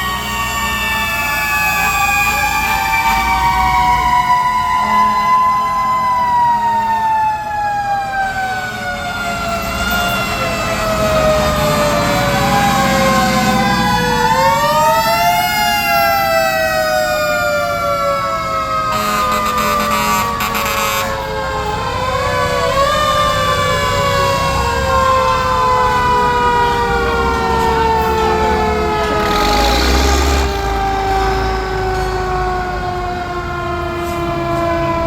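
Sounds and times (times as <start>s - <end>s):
mechanical sirens wailing: 0.0s - 35.0s
truck engines rumbling: 0.0s - 35.0s.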